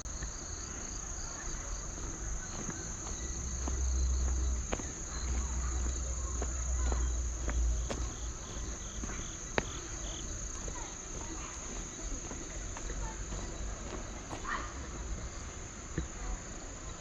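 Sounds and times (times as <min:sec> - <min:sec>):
footsteps clicking: 0:00.1 - 0:14.7
insects trilling: 0:00.1 - 0:17.0
pulsing insect chirp: 0:00.1 - 0:17.0.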